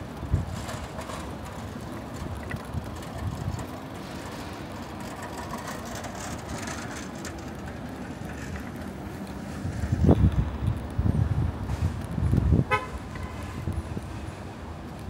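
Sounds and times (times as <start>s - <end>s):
passing vehicle engines: 0.0s - 15.0s.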